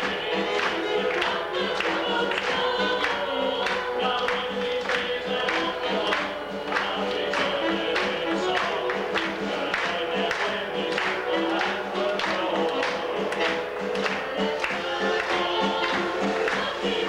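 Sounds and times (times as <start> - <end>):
gospel group singing in harmony: 0.0 - 17.0.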